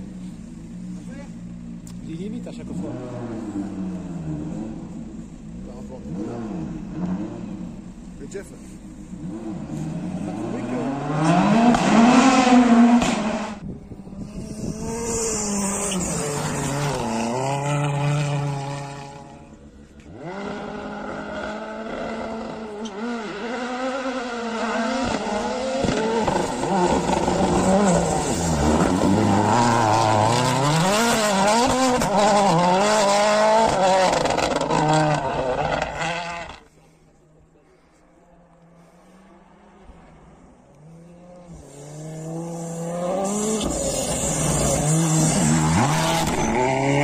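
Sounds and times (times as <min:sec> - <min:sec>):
rally car engine revving: 0:00.0 - 0:37.0, 0:38.4 - 0:47.0.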